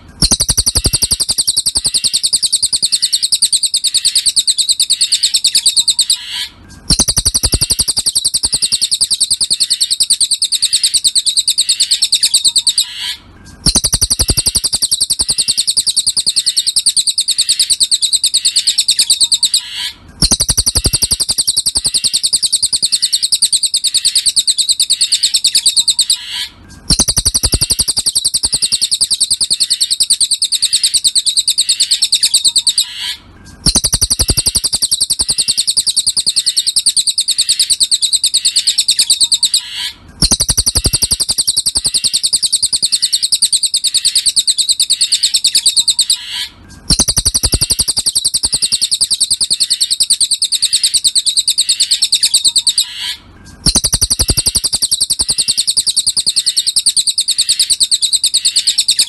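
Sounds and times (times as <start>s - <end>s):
bird trilling: 0.0s - 59.0s.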